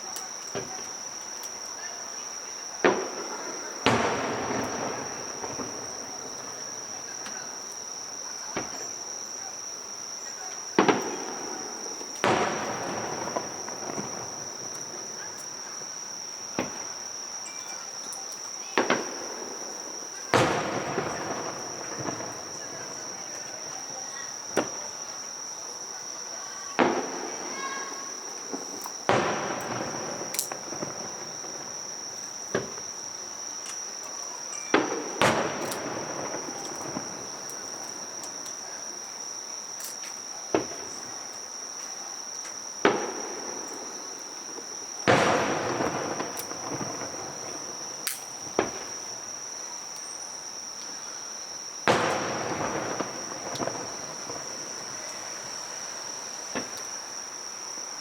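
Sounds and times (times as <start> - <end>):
fireworks bursting: 0.0 - 58.0
high-pitched insect trill: 0.0 - 58.0.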